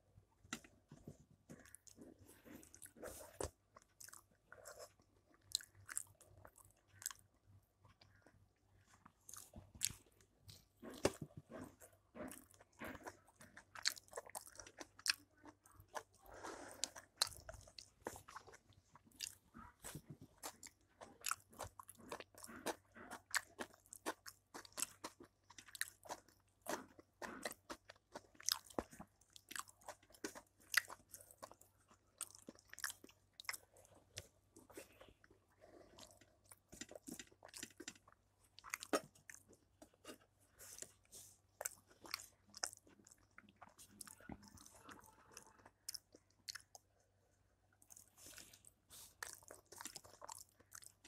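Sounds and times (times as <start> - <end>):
person chewing food: 0.4 - 51.0.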